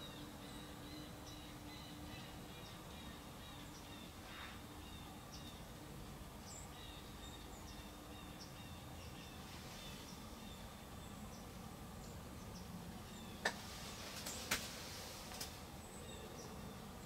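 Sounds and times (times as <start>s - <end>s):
low steady hiss: 0.0s - 17.0s
small birds chirping: 0.0s - 17.0s.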